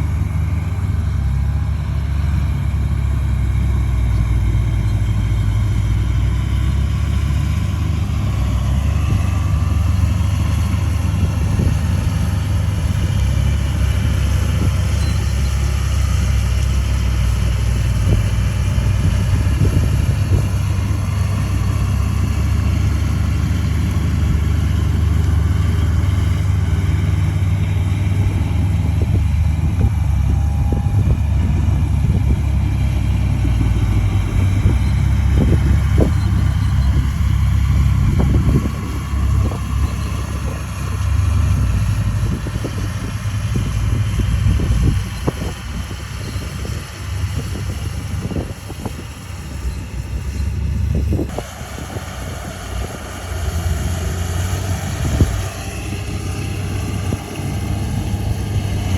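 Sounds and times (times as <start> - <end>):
heavy diesel engine under load: 0.0 - 58.9.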